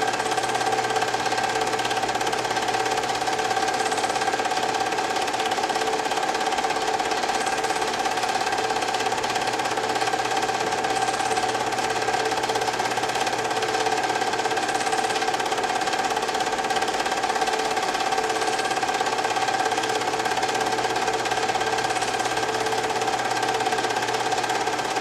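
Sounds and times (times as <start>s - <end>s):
film projector whirring: 0.0s - 25.0s
film transport chatter: 0.0s - 25.0s.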